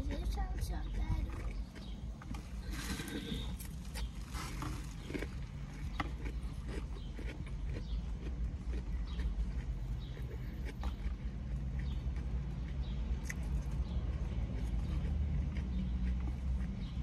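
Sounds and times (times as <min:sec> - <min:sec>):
person chewing salad: 0:00.0 - 0:17.0.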